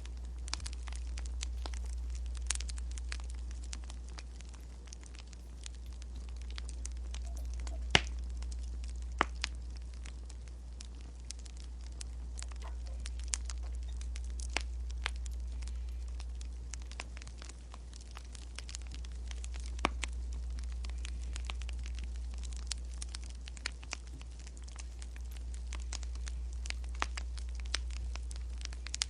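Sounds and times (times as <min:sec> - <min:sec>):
low rumble: 0:00.0 - 0:29.0
wood fire crackling and popping: 0:00.0 - 0:29.0.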